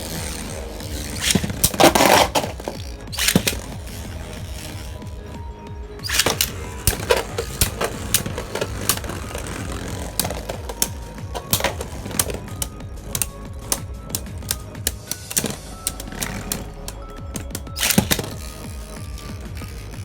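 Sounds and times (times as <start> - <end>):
spinning tops clashing: 1.0 - 4.9, 6.0 - 18.6.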